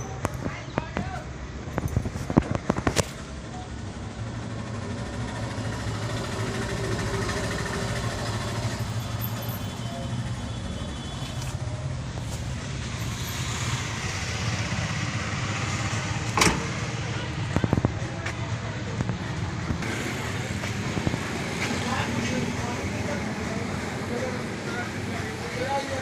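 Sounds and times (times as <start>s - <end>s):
vehicle engine running: 1.5s - 26.0s.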